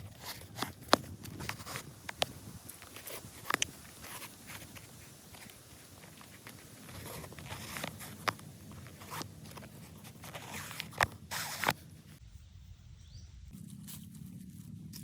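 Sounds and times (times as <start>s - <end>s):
rustling and crunching: 0.0s - 12.2s, 13.5s - 15.0s.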